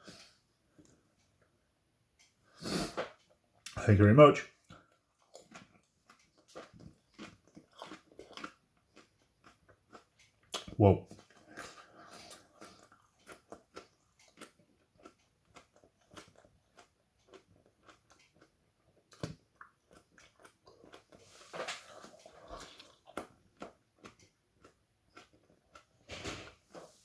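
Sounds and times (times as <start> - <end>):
person chewing chili: 4.6 - 27.0.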